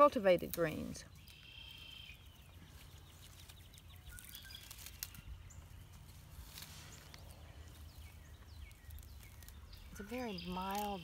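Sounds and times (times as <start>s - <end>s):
low outdoor background: 0.0s - 11.0s
faint birdsong: 0.6s - 11.0s.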